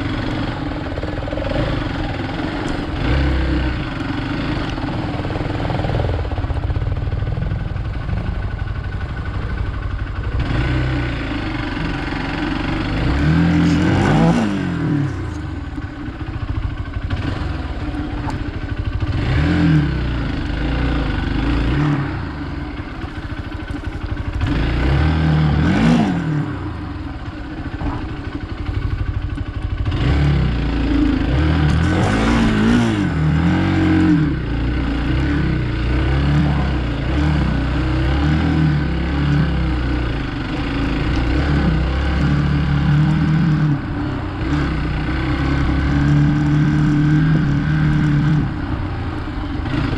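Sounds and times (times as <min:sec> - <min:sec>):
motorcycle engine revving: 0:00.0 - 0:49.9
wind and ground noise: 0:00.0 - 0:49.9.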